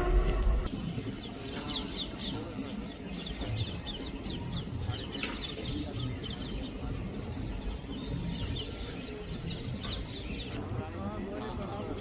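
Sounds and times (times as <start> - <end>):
birds chirping: 0.7 - 12.0.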